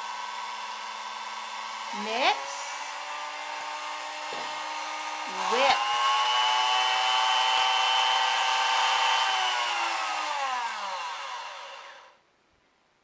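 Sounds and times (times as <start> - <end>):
hand mixer motor whining: 0.0 - 12.2.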